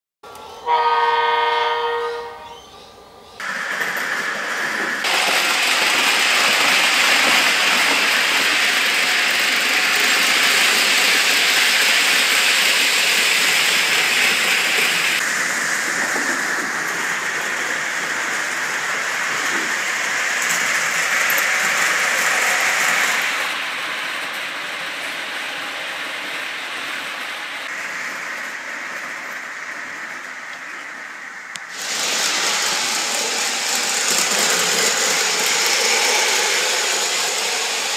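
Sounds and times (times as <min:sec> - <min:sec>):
model trains whirring and rattling: 0:02.9 - 0:37.9.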